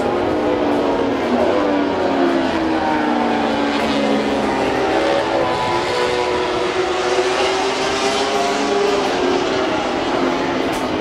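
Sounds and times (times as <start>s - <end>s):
race motorcycles passing at speed: 0.0s - 11.0s.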